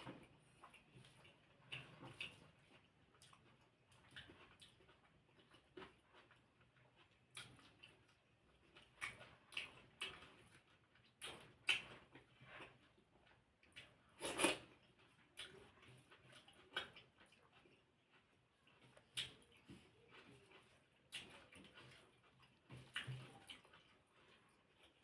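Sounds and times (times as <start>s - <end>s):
chewing clicks and smacks: 0.0s - 25.0s.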